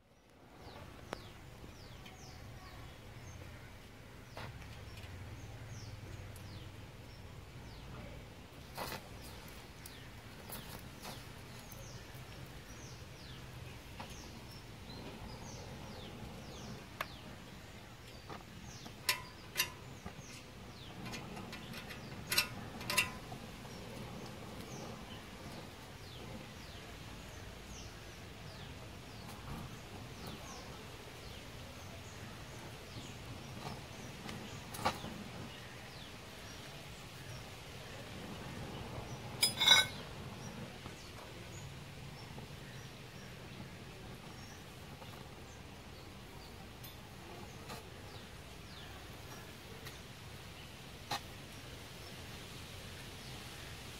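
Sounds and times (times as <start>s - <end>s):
small birds chirping: 0.0s - 53.9s
welding torch flame rushing: 6.0s - 53.7s.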